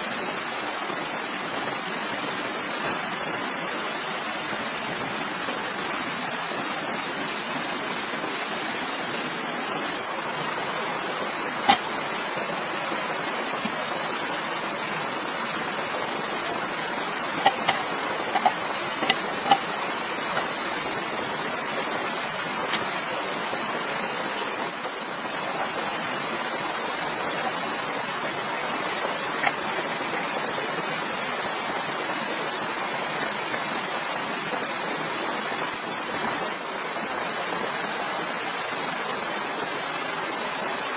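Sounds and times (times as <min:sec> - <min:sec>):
steady hiss of water: 0:00.0 - 0:40.9.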